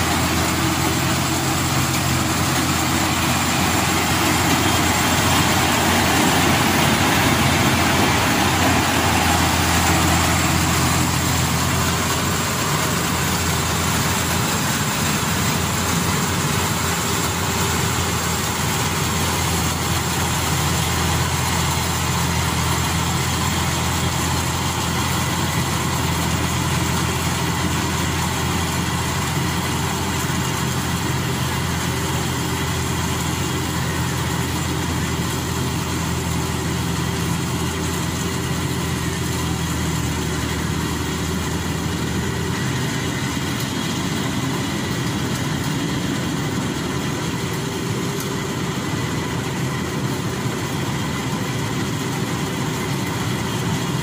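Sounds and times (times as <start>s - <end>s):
combine harvester humming: 0.0s - 54.0s.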